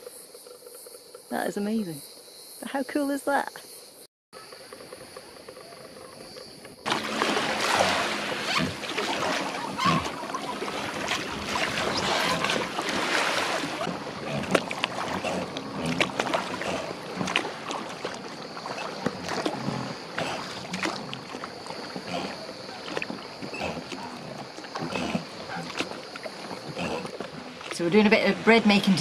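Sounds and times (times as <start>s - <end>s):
oars splashing: 4.4s - 29.0s
water rushing: 4.8s - 29.0s.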